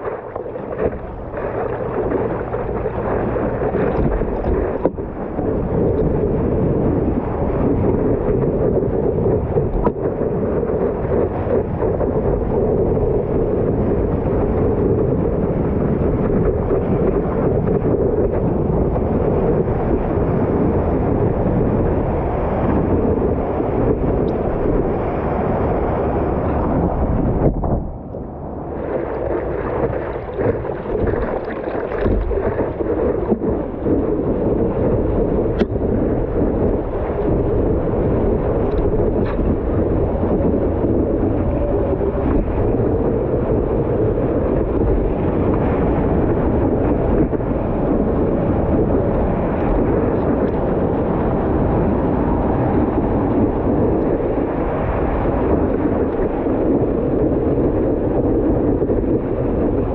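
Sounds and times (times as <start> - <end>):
water rushing and splashing: 0.0 - 14.8, 15.4 - 59.9
wind buffeting microphone: 0.0 - 59.9.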